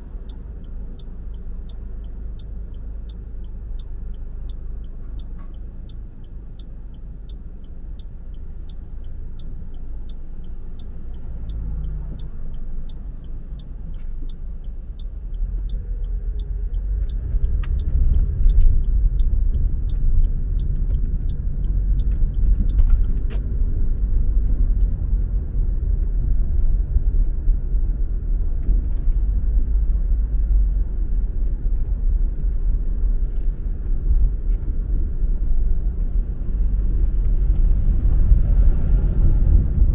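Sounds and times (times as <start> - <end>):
car road and engine rumble: 0.0 - 39.9
turn signal ticking: 0.0 - 39.9.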